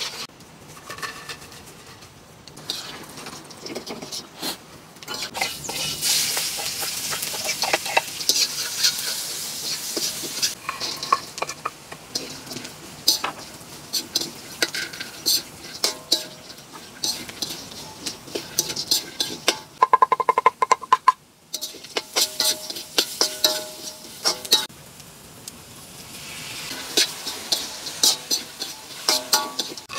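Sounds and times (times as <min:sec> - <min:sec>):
metal spatula scraping wok: 0:00.0 - 0:24.7, 0:26.2 - 0:29.9
hot oil sizzling: 0:00.0 - 0:29.9.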